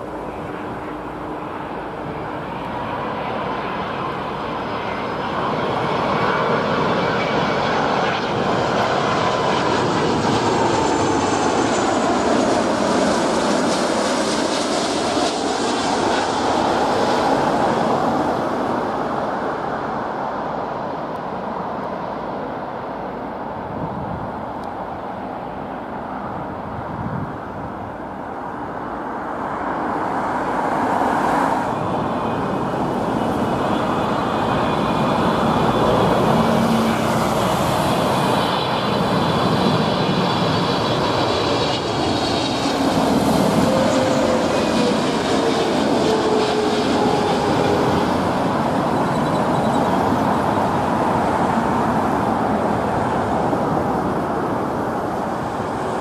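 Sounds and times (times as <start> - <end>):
faint high engine whine: 0.0 - 56.0
jet airliner engine noise: 0.0 - 56.0.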